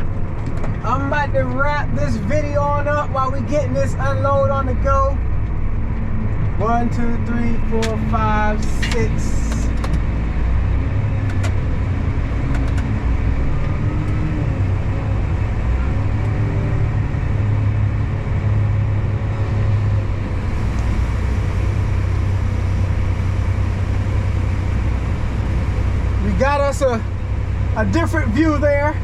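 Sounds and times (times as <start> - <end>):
farm machine engine droning: 0.0 - 29.0.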